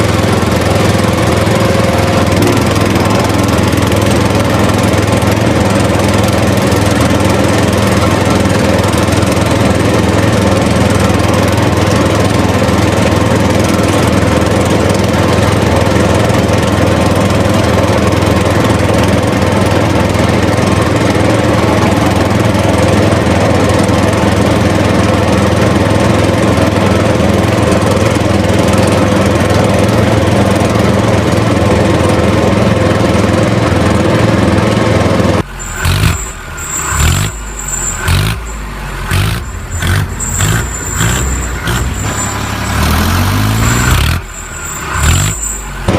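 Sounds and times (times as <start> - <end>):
engine droning steadily: 0.0 - 45.9.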